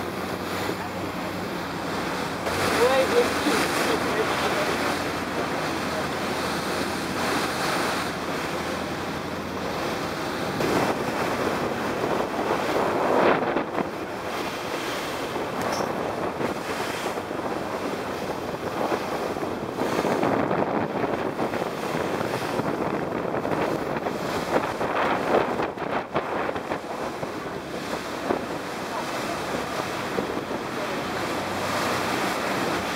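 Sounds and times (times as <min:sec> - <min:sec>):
choppy sea water splashing: 0:00.0 - 0:32.9
wind buffeting microphone: 0:00.0 - 0:32.9.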